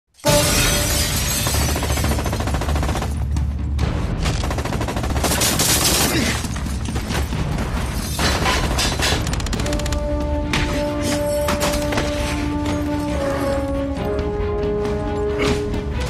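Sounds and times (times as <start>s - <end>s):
film score music: 0.1s - 16.0s.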